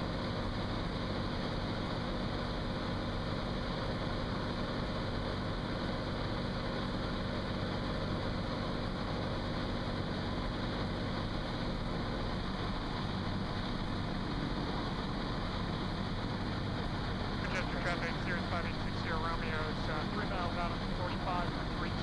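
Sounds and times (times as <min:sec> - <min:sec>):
airplane engine drone in cabin: 0:00.0 - 0:22.0.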